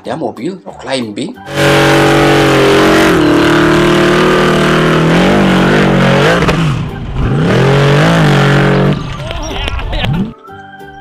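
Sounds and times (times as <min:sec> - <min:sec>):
buggy engine revving: 0:01.5 - 0:10.3.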